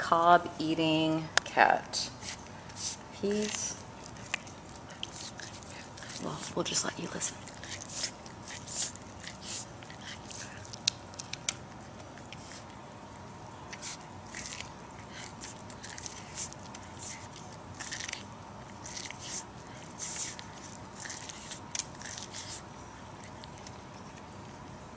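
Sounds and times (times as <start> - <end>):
cat chewing corn: 2.2 - 24.9.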